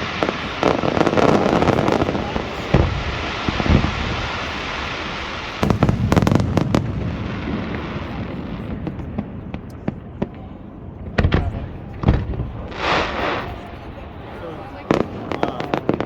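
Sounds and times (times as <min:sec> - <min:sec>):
fireworks booming: 0:00.0 - 0:16.0
fireworks crackling: 0:00.0 - 0:16.0
fireworks cracks and bangs: 0:00.0 - 0:16.0.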